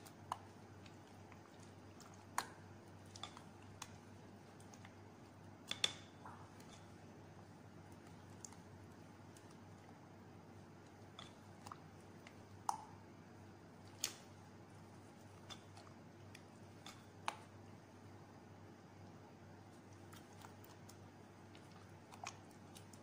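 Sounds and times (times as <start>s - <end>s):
spatula squishing wet mixture: 0.0s - 23.0s.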